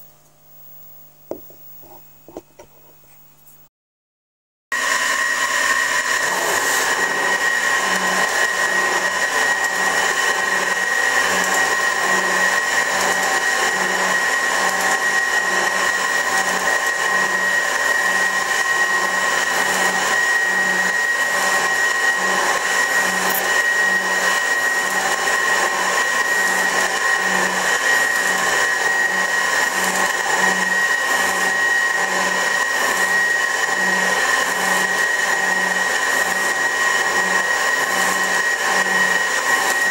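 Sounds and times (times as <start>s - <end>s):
metal shaper machine humming: 4.8s - 39.9s.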